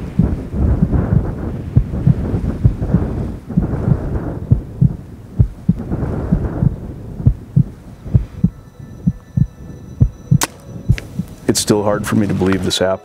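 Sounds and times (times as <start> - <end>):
low rumble of thunder: 0.0 - 11.3
heartbeat double thumps: 0.0 - 11.5.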